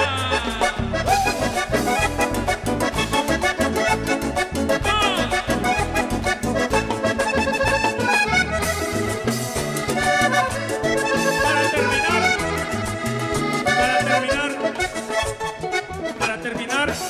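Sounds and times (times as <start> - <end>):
congas and percussion: 0.0 - 15.7
accordion: 0.0 - 17.0
electric bass: 0.0 - 17.0.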